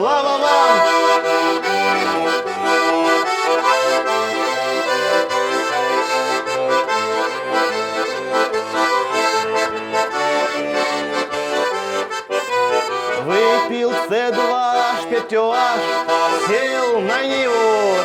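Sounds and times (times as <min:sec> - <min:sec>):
accordion melody: 0:00.0 - 0:18.0.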